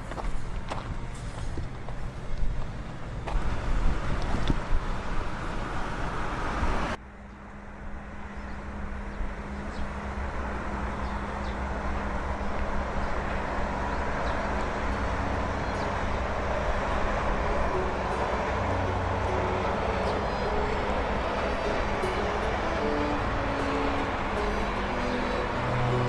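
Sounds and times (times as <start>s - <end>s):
vehicle rumble: 0.0s - 26.0s.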